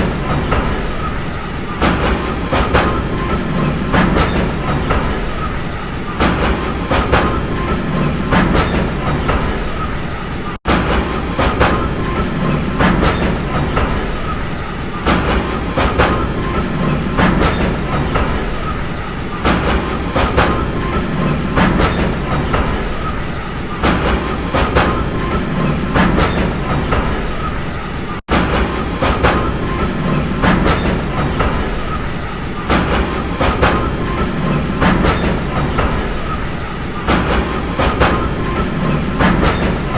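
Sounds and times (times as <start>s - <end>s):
train rumbling on rails: 0.0s - 39.9s
wheels clicking over rail joints: 0.0s - 39.9s.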